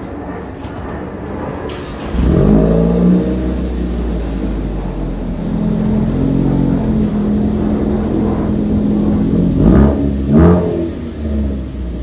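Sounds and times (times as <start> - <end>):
car engine idling: 1.7 - 12.0
engine quick sharp rev: 1.7 - 12.0.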